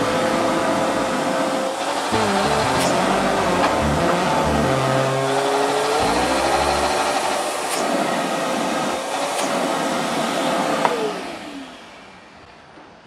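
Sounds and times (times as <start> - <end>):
shop vacuum motor whine: 0.0 - 12.7.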